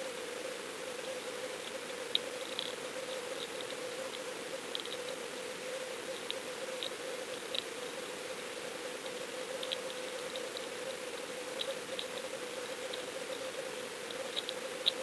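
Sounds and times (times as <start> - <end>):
faint ticks and clicks: 0.8 - 15.0.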